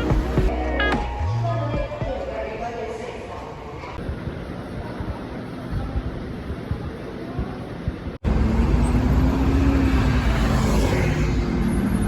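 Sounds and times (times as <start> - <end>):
road traffic noise: 0.0 - 1.6, 2.4 - 12.0.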